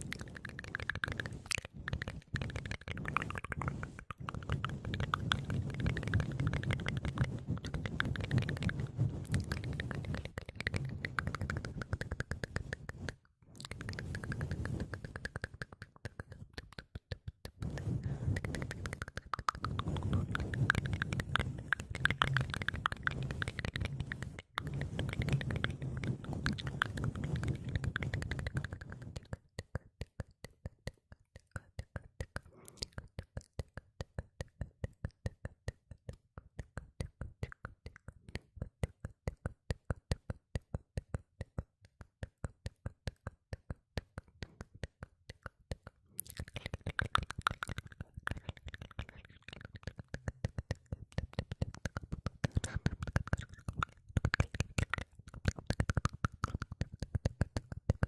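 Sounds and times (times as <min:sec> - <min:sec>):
wet mouth clicking and smacking: 0:00.0 - 0:58.0.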